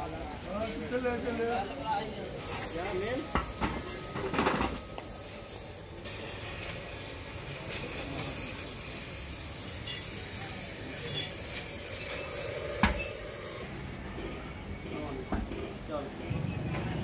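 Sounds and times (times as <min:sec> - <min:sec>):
faint workshop hum: 0:00.0 - 0:17.0.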